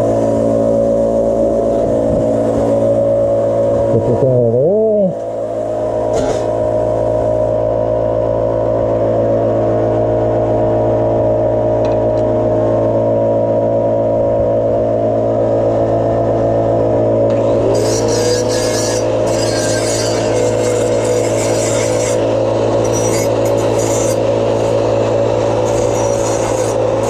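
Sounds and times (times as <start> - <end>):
machine hum: 0.0 - 27.0.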